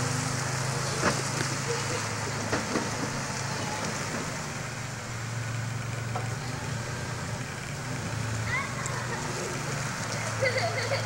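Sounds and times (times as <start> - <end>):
pickup truck engine running: 0.0 - 11.0.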